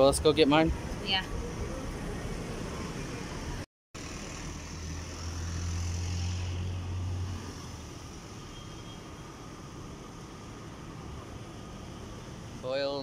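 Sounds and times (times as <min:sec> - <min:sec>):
night street traffic: 0:00.0 - 0:13.0.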